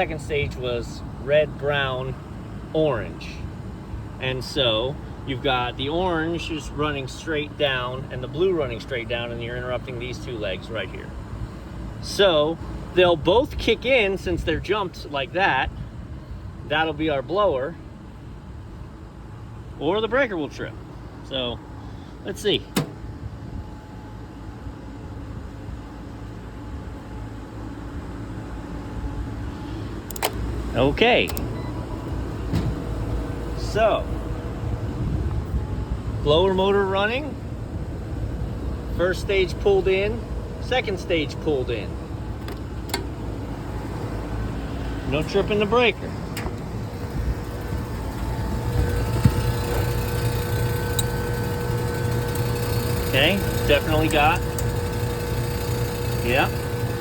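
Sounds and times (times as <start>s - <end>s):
hvac unit mechanical hum: 0.0s - 57.0s.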